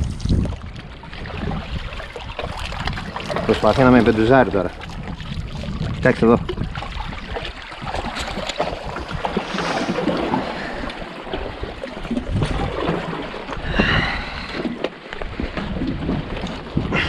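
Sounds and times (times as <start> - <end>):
water splashing against rocks: 0.0 - 17.0.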